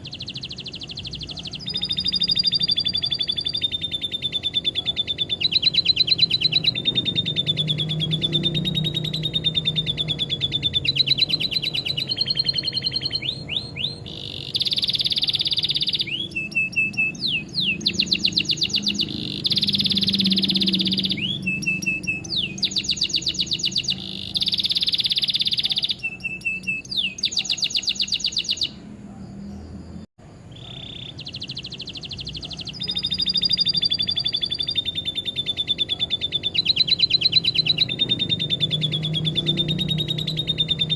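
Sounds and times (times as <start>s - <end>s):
lovebird trills: 0.0s - 29.7s, 30.5s - 40.9s
canary singing: 0.0s - 40.9s.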